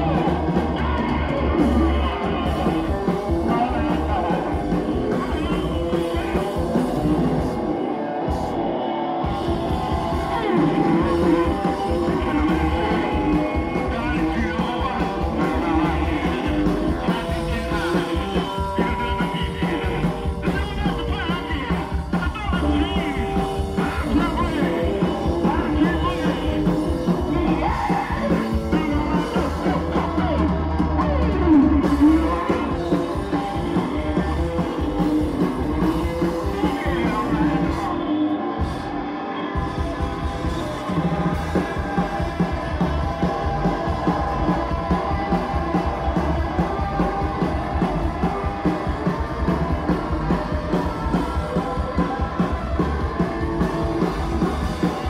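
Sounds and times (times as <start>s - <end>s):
live rockabilly punk band: 0.0s - 55.0s
person singing: 0.0s - 55.0s.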